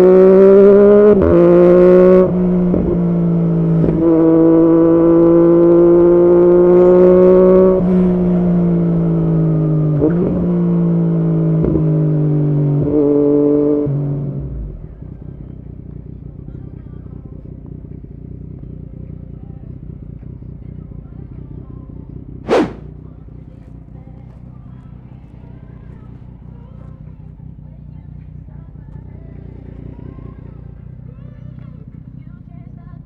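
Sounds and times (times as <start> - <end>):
motorcycle engine under load: 0.0 - 33.0.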